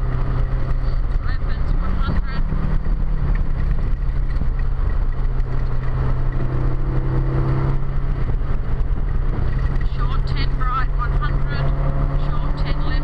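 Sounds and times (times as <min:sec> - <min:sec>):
car engine drone: 0:00.0 - 0:13.0
higher engine tone: 0:00.0 - 0:13.0
wind and road noise: 0:00.0 - 0:13.0.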